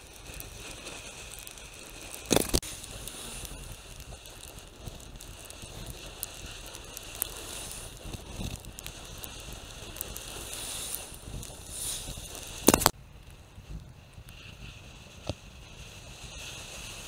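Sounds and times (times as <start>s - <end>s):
loud crackling burst: 0.0s - 17.0s
wind and bicycle riding noise: 0.0s - 17.0s.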